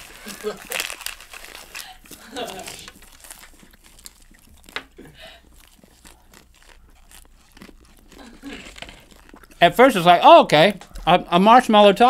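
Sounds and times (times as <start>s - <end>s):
people chewing crunchy food: 0.0s - 12.0s.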